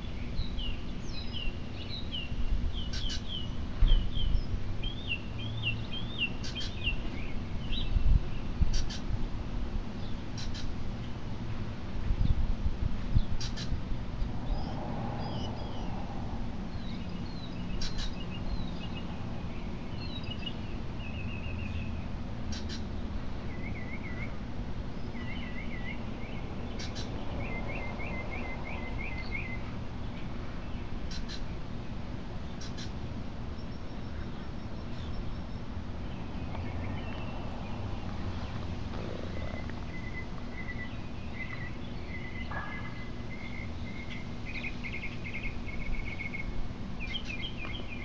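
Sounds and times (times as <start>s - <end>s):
small birds chirping: 0.0s - 11.2s, 12.1s - 48.0s
low outdoor rumble: 0.0s - 48.0s.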